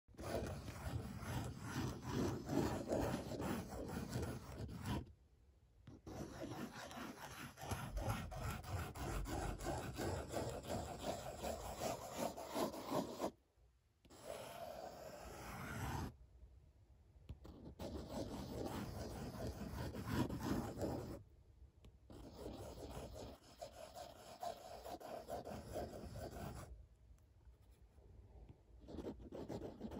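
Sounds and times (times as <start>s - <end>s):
pen scratching on paper: 0.1s - 5.1s, 5.9s - 13.4s, 14.0s - 16.1s, 17.3s - 21.2s, 22.1s - 26.7s, 28.8s - 29.9s.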